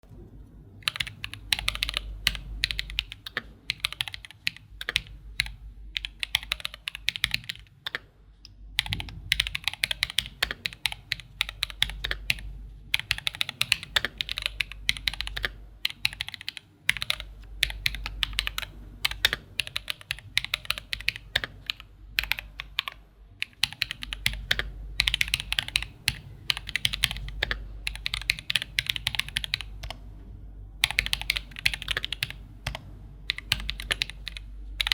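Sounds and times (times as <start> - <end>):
mechanical keyboard typing: 0.8 - 8.1, 8.8 - 30.0, 30.8 - 34.9.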